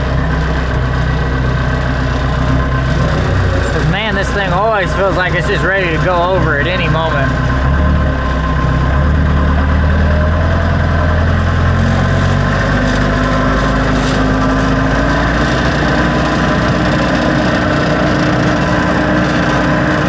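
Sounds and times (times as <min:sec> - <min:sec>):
backhoe engine running: 0:00.0 - 0:20.0.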